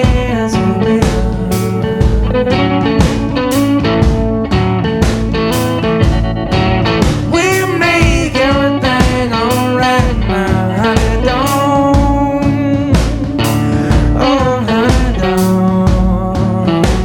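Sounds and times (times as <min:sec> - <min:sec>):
rock blues song: 0:00.0 - 0:17.0.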